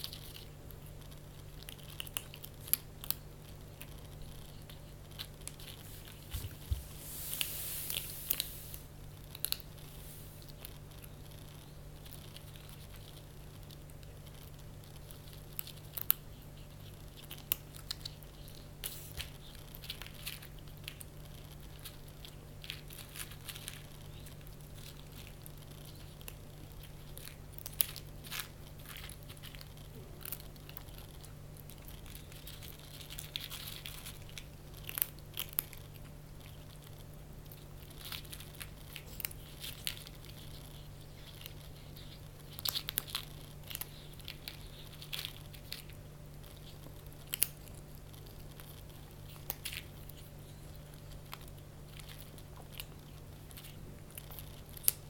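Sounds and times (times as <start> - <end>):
kitten crunching dry food: 0.0 - 55.0.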